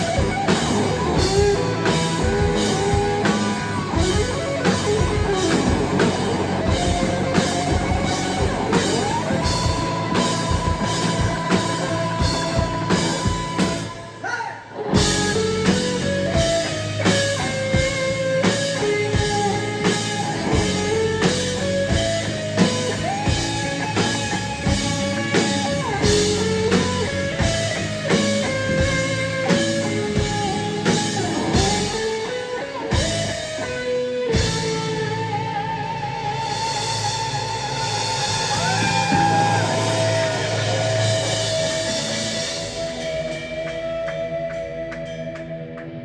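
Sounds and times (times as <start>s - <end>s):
rock band playing live: 0.0s - 46.0s.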